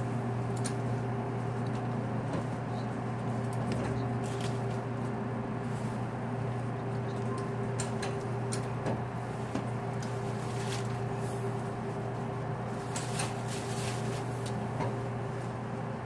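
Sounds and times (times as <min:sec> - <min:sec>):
electric train hum and rumble: 0:00.0 - 0:16.0.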